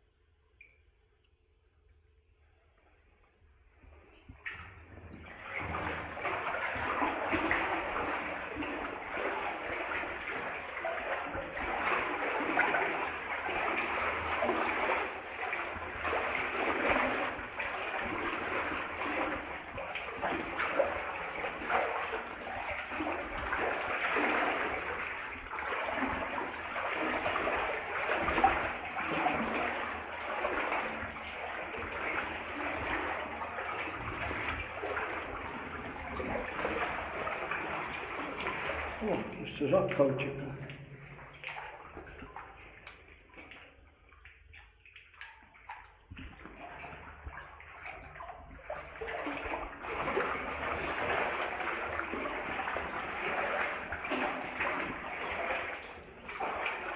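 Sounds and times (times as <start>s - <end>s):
water sloshing around wading legs: 3.7s - 56.9s.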